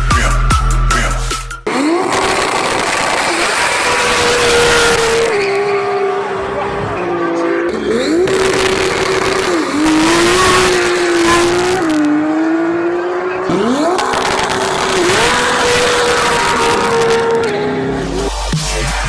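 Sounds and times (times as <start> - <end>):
race car engine at high revs: 1.6 - 19.0.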